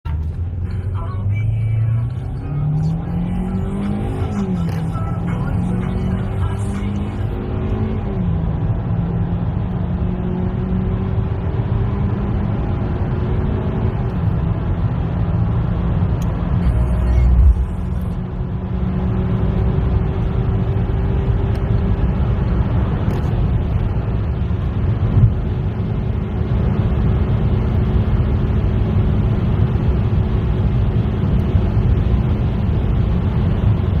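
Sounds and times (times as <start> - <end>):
car engine accelerating: 0.1 - 34.0.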